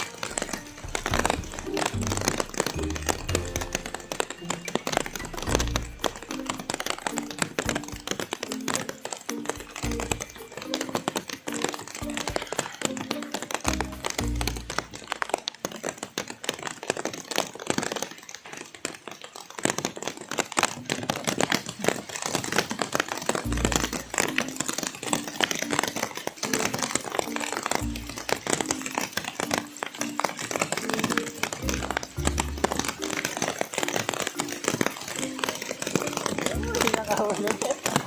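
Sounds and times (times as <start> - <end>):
rain crackling on plastic bag: 0.0 - 38.0.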